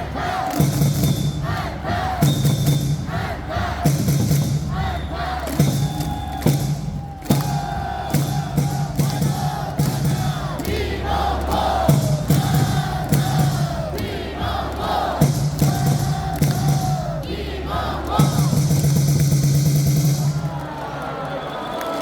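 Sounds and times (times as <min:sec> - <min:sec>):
crowd singing and chanting: 0:00.0 - 0:19.6
music over loudspeakers with beat: 0:00.0 - 0:20.5.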